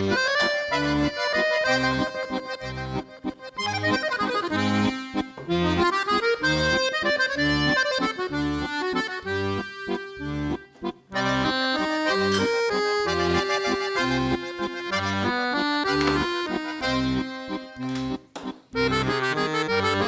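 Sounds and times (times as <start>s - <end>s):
accordion music: 0.0s - 20.0s.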